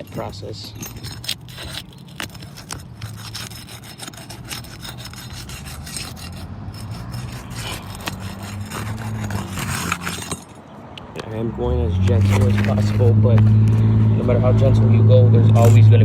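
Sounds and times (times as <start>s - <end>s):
tool scraping asphalt shingle: 0.0s - 16.0s.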